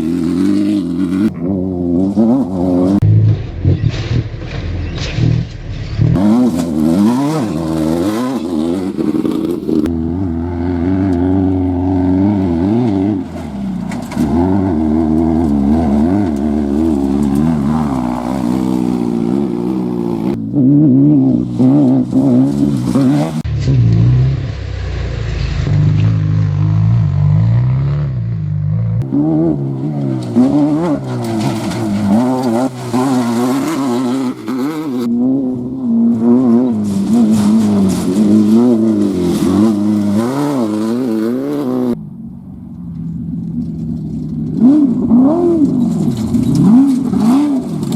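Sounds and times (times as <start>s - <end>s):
race vehicle engines revving: 0.0s - 47.9s.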